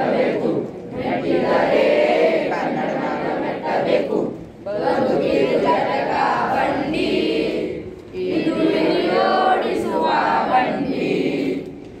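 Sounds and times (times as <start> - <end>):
children singing in unison: 0.0 - 11.8.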